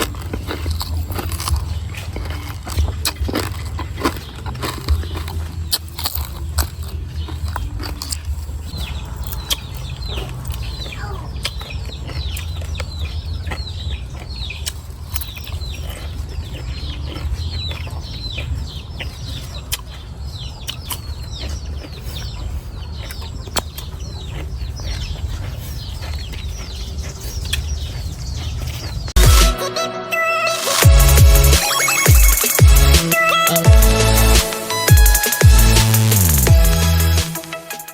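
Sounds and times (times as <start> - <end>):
birds chirping: 0.0 - 37.9.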